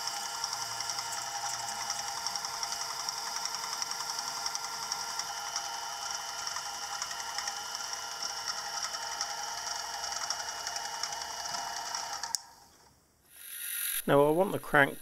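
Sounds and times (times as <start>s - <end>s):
milling machine spindle whine: 0.0s - 12.4s.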